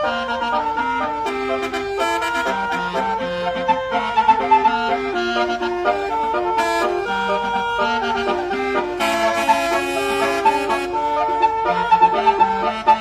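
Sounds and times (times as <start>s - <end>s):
multi-trumpet vehicle horn melody: 0.0s - 13.0s.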